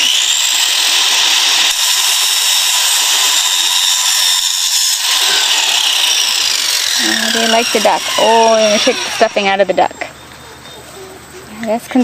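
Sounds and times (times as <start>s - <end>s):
power tool whining: 0.0s - 10.4s.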